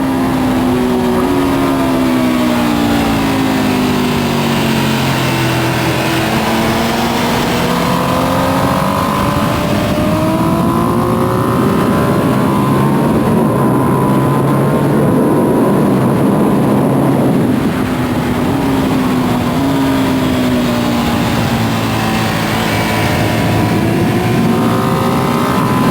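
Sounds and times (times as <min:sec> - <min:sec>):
motorcycle engine accelerating: 0:00.0 - 0:25.9
rush of wind: 0:00.0 - 0:25.9.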